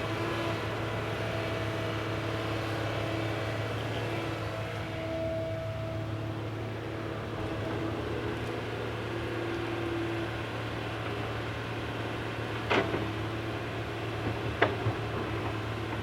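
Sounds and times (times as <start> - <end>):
excavator engine droning: 0.0 - 16.0.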